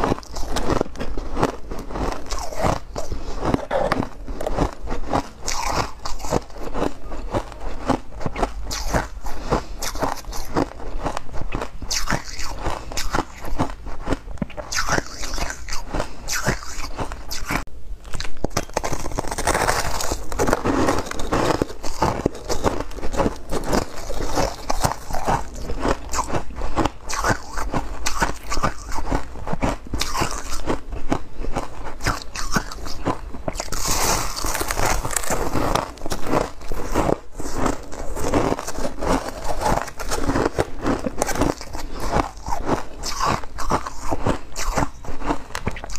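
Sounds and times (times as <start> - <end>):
person chewing ice crunches: 0.0 - 45.9.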